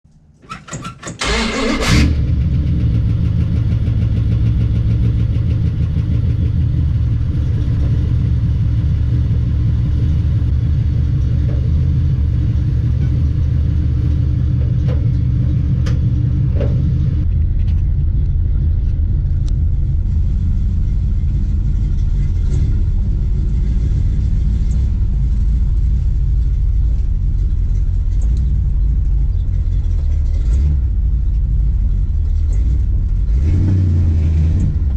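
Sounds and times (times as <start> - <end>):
car engine starting: 0.1 - 34.9
engine running: 0.3 - 34.9.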